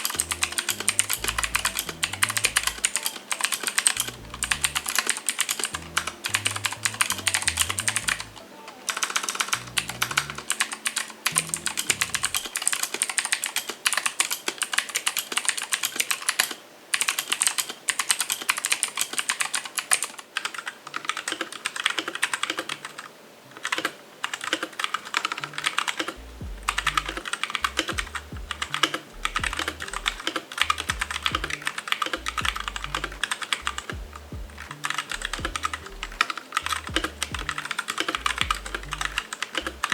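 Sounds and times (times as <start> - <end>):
typing on mechanical keyboard: 0.0 - 34.1, 34.7 - 39.9.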